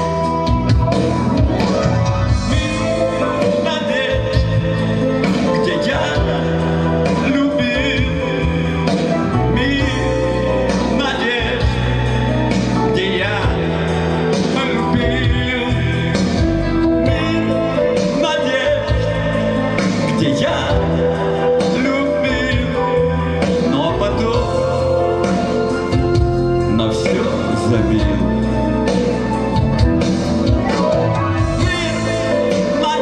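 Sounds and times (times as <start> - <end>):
live pop-rock song: 0.0 - 33.0.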